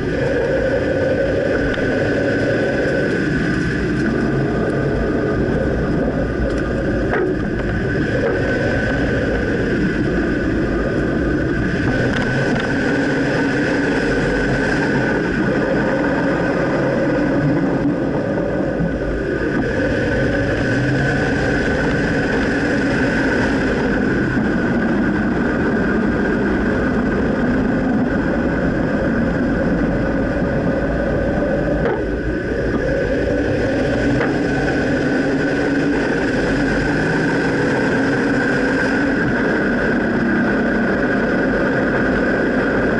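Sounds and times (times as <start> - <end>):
truck engine and road noise: 0.0 - 42.9.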